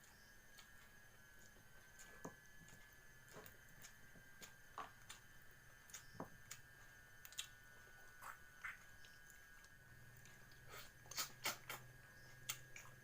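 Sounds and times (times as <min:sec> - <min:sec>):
faint high-pitched hum: 0:00.0 - 0:13.0.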